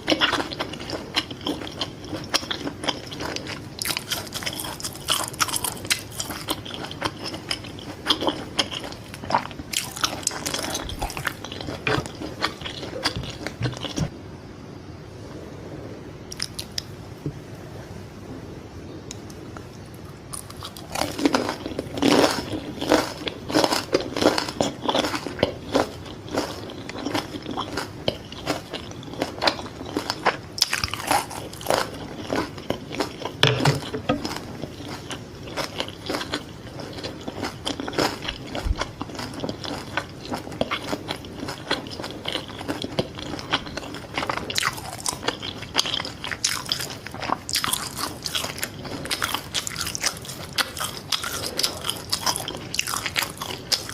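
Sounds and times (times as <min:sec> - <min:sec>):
crunchy biting and chewing: 0:00.0 - 0:14.1, 0:20.0 - 0:53.9.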